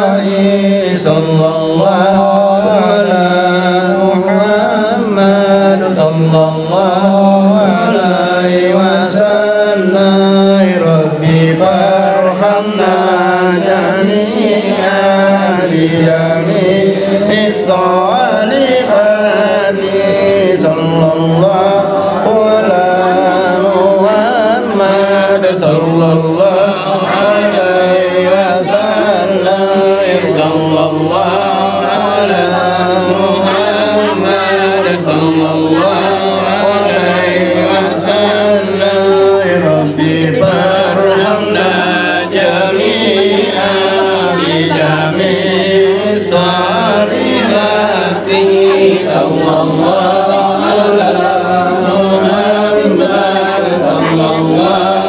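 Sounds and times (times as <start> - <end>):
voices chanting devotional praise: 0.0 - 55.0.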